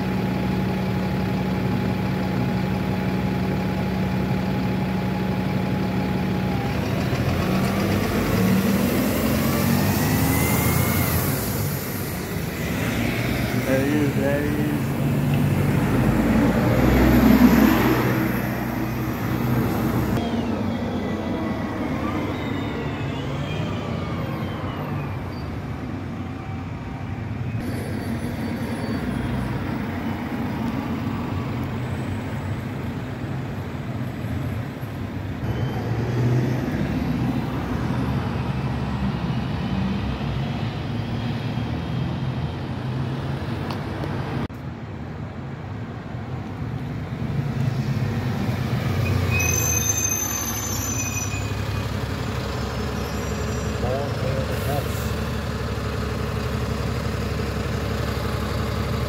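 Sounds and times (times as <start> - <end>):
bus engines passing: 0.0 - 59.0
steady traffic noise: 0.0 - 59.0.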